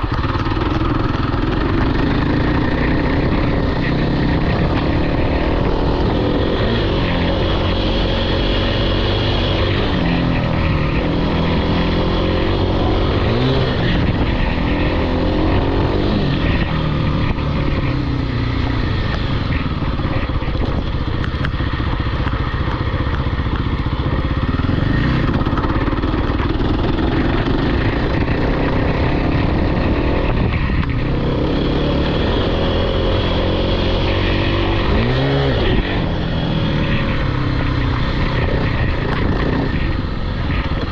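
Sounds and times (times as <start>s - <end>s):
off-road vehicle engine revving: 0.0s - 23.1s, 24.2s - 40.9s.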